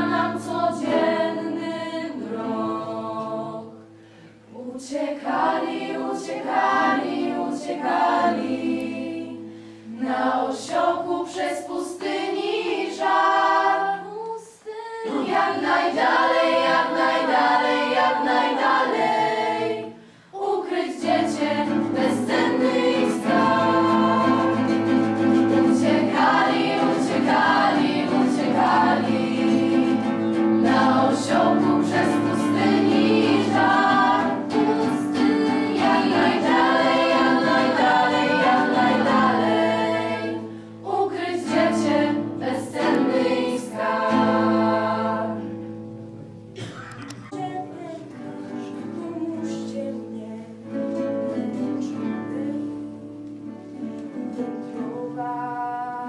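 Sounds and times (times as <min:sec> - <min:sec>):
choir singing a carol: 0:00.0 - 0:46.0, 0:46.6 - 0:56.0.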